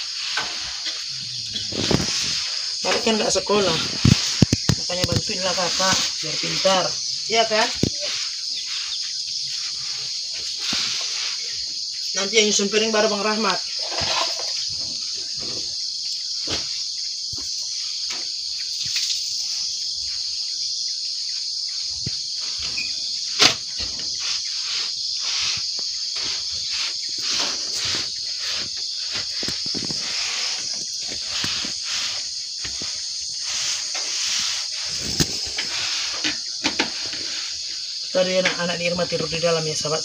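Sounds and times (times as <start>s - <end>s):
high-pitched hiss: 0.0s - 40.0s.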